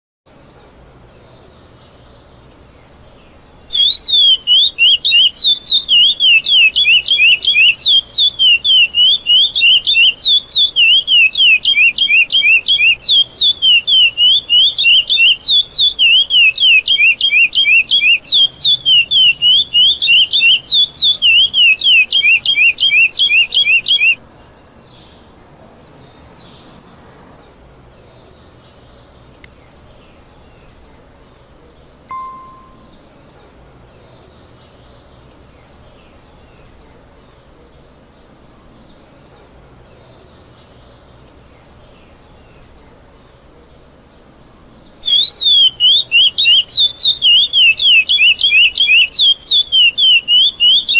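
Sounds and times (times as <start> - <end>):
finch singing: 0.3 - 25.3, 28.0 - 50.9.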